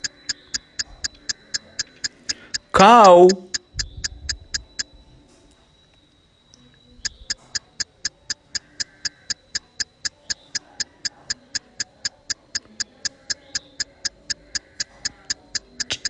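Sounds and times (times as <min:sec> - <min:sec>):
fast even ticking: 0:00.0 - 0:04.9, 0:07.0 - 0:16.0.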